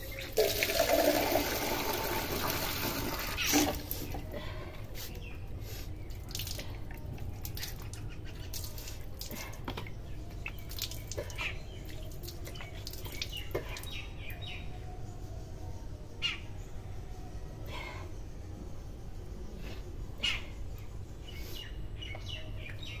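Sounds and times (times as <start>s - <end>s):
steady low hum: 3.8s - 23.0s.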